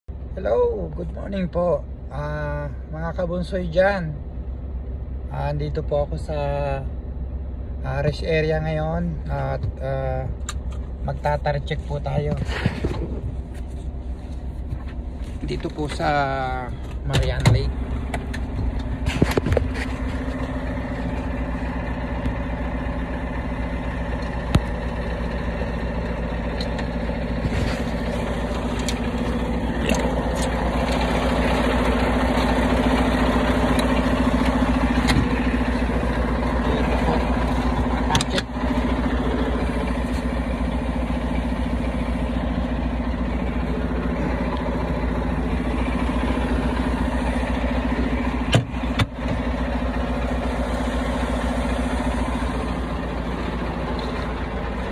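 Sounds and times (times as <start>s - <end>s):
diesel truck engine idling: 0.1s - 54.9s.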